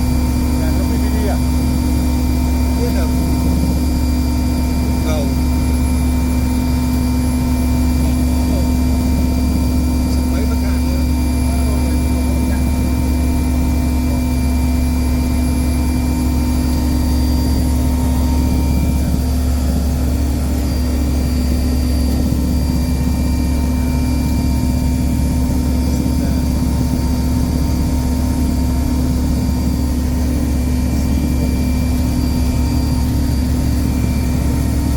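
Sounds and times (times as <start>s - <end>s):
marine diesel engine drone: 0.0s - 34.9s.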